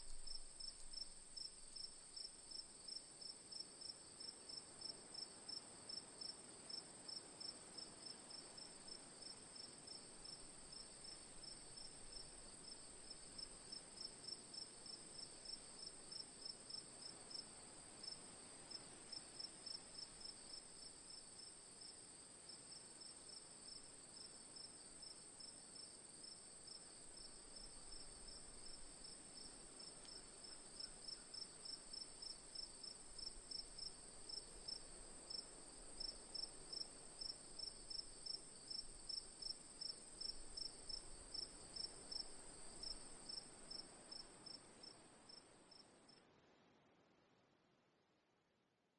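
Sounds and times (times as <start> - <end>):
crickets chirping: 0.0 - 46.2.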